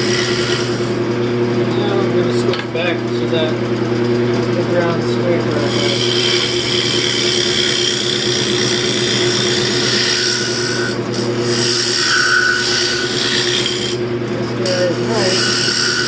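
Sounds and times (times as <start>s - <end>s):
lathe motor hum: 0.0s - 16.0s
tool scraping spinning wood: 0.0s - 16.0s.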